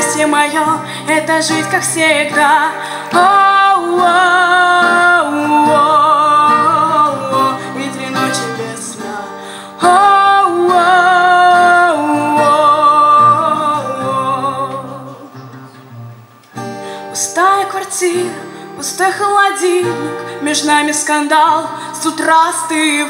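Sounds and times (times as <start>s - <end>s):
woman singing with vibrato: 0.0s - 15.5s, 17.0s - 23.0s
strummed acoustic guitar: 0.0s - 23.0s.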